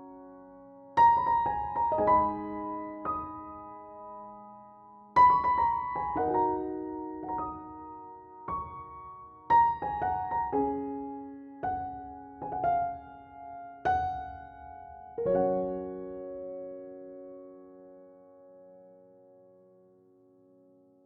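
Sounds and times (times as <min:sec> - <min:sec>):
gentle solo piano: 0:00.0 - 0:21.0.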